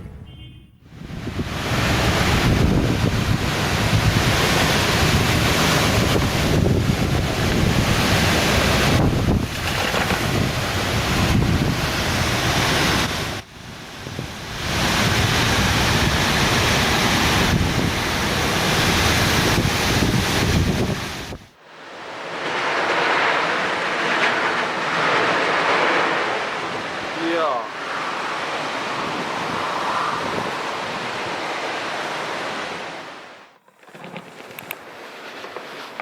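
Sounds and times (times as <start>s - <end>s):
wind buffeting microphone: 0.9s - 21.5s, 22.6s - 33.0s.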